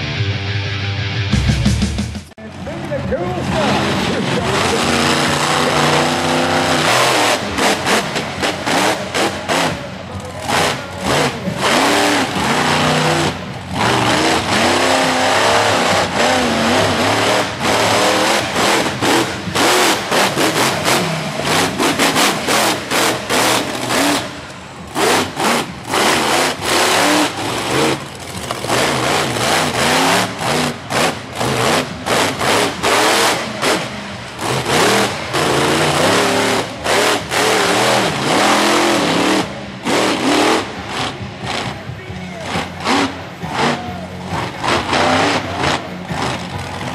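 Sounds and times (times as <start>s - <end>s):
monster truck engine revving: 2.5s - 46.9s.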